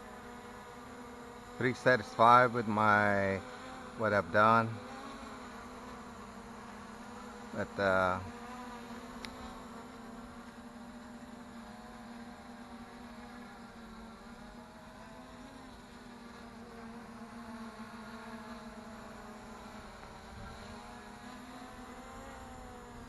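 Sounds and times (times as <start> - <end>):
quadcopter propellers buzzing: 0.0 - 23.0.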